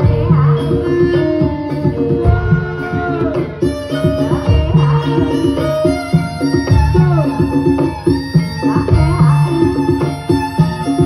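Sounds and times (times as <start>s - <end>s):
gamelan music: 0.0s - 11.0s
rapid drum strokes: 0.0s - 11.0s.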